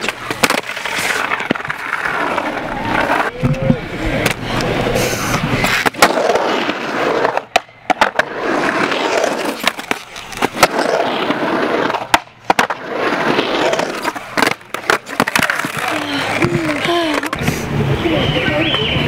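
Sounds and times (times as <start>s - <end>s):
skateboard clacks: 0.0s - 17.7s
skateboard wheels rolling on concrete: 0.0s - 19.0s.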